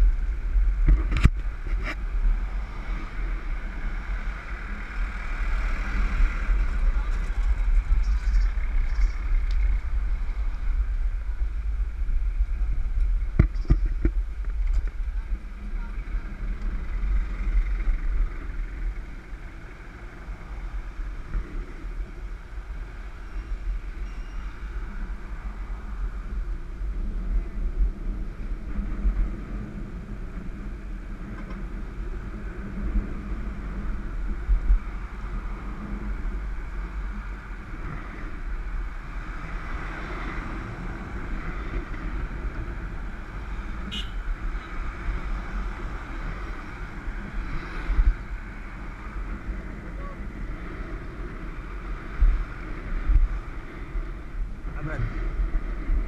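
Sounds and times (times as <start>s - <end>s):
road and traffic noise: 0.0s - 56.0s
wind rumbling on microphone: 0.0s - 56.0s.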